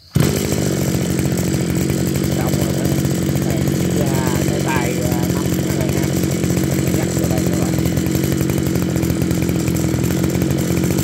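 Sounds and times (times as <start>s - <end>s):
brush cutter engine idling: 0.1s - 11.0s.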